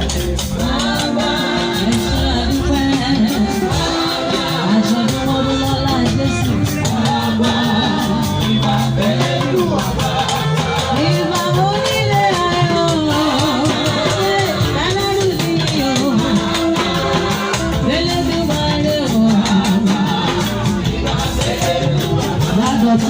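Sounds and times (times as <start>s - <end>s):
church choir singing: 0.0s - 23.0s
instrumental accompaniment: 0.0s - 23.0s
steady percussion beat: 0.0s - 23.0s.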